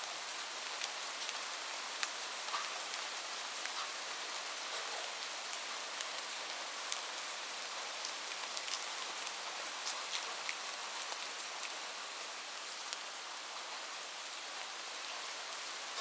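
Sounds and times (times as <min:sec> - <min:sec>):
rain falling on a roof: 0:00.0 - 0:16.0.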